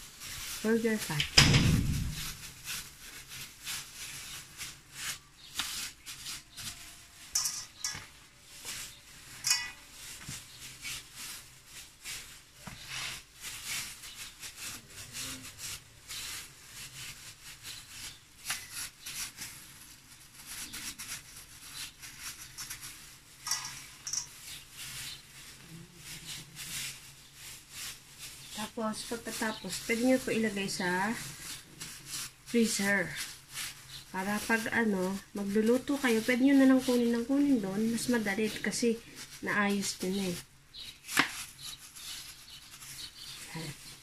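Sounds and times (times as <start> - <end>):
plastic gloves crinkling: 0.0 - 44.0.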